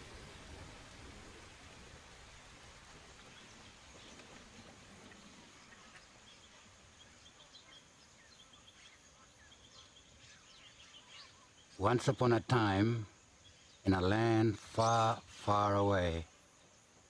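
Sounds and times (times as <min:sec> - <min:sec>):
soft even hiss: 0:00.0 - 0:17.0.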